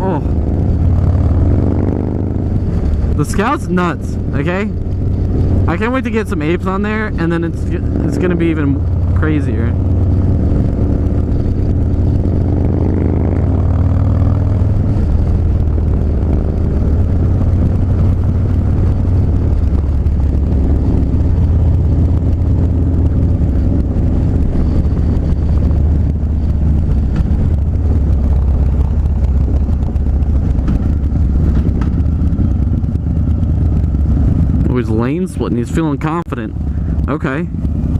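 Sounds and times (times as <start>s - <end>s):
wind noise on microphone: 0.0s - 34.8s
motorcycle engine running: 0.0s - 37.9s.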